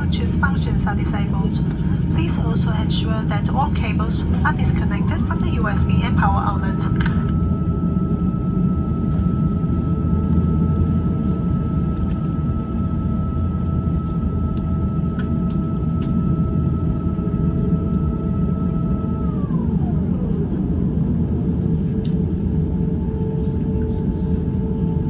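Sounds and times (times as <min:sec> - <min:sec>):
aircraft cabin low rumble: 0:00.0 - 0:25.0.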